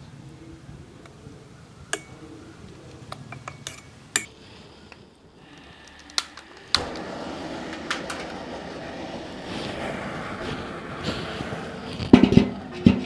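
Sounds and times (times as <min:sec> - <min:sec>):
gas burner flame roaring: 0:00.0 - 0:13.0.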